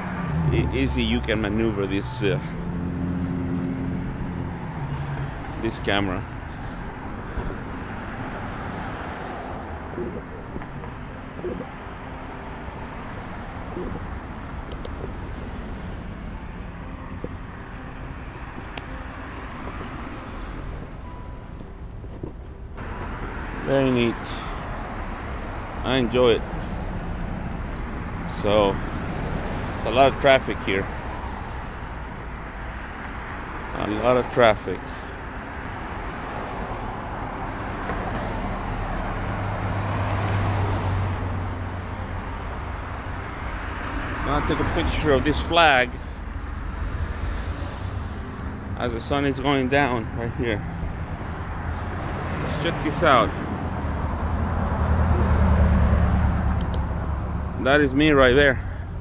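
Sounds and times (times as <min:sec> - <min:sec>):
passing cars: 0:00.0 - 0:59.0
vehicle engine hum: 0:00.0 - 0:59.0.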